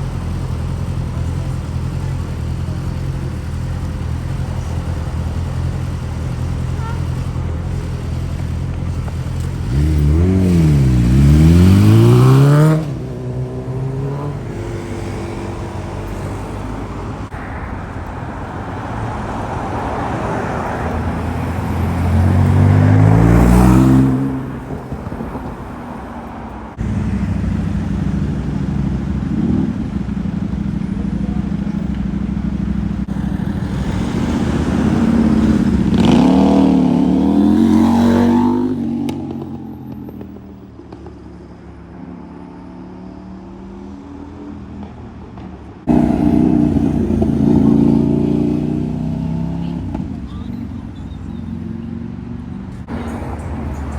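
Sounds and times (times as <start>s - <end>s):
sports car engines revving: 0.0s - 41.2s, 42.7s - 53.9s
traffic noise: 0.0s - 53.9s.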